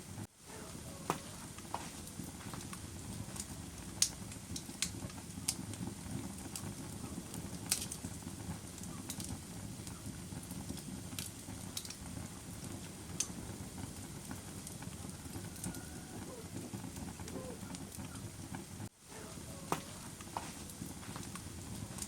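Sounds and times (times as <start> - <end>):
fire crackling and popping: 0.0 - 22.0
low rumble of burning: 0.0 - 22.0.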